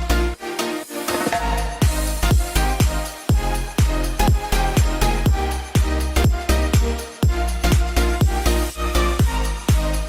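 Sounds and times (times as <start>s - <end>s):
music with heavy kick drum beat: 1.1s - 10.0s.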